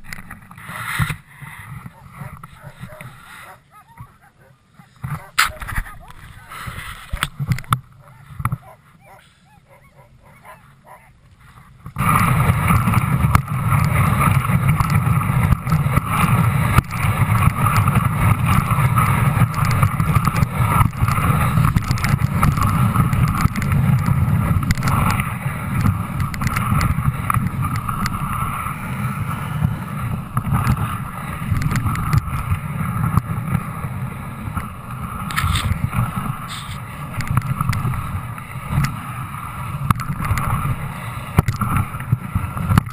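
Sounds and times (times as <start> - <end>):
sled runners scraping on snow: 0.0 - 42.9
wind on microphone: 0.0 - 42.9.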